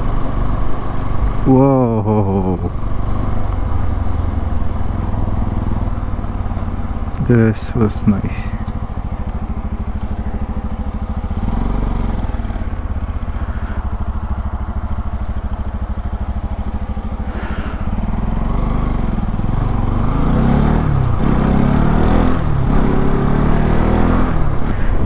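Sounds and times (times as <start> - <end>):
motorcycle engine idling and accelerating: 0.0 - 25.0.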